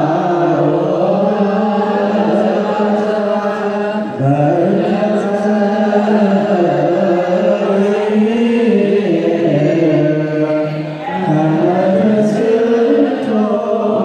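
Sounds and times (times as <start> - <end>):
clergy chanting: 0.0 - 14.0.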